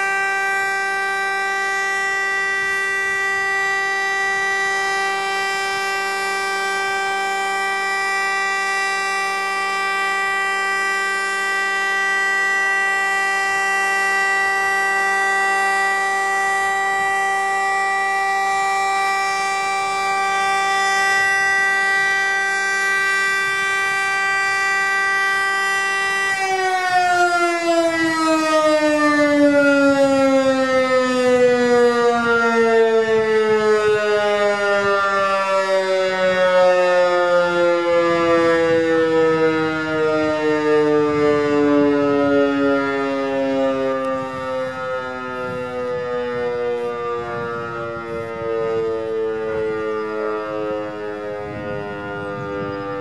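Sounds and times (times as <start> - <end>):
electric motor siren: 0.0 - 53.0.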